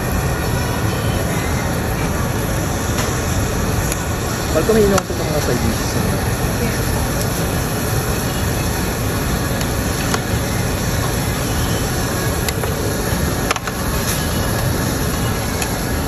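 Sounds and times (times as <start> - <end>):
extractor fan rushing: 0.0 - 16.0
meat sizzling on a hot plate: 0.1 - 16.0.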